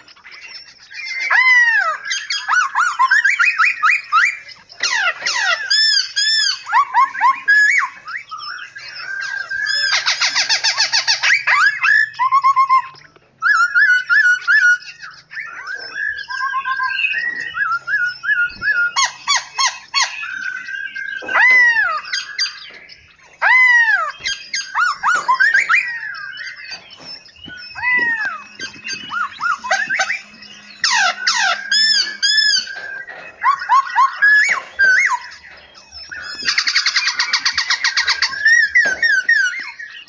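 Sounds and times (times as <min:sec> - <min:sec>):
fast rattling bird trill: 0:00.0 - 0:40.0
loud arching bird chirps: 0:00.0 - 0:40.0.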